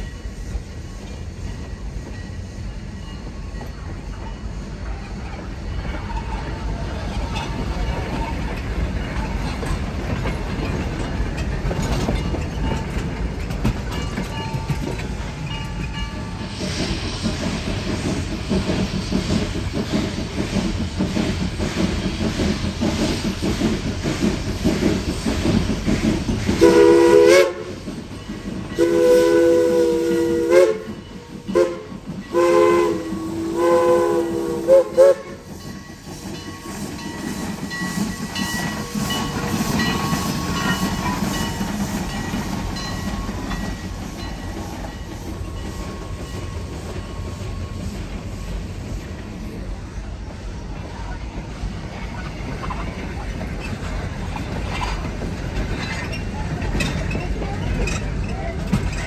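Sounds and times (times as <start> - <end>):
steam locomotive rumbling: 0.0 - 59.0.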